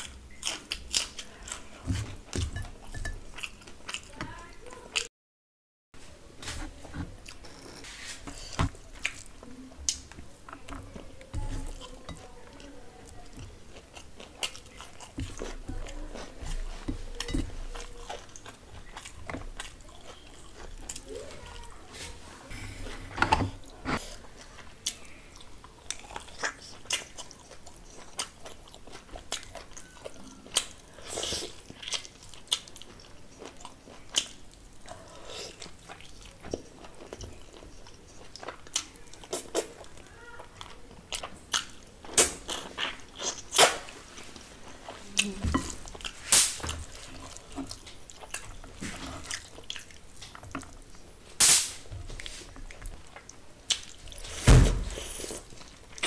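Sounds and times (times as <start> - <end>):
person chewing food: 0.0 - 5.1, 6.7 - 21.8, 22.5 - 51.3, 52.1 - 56.0.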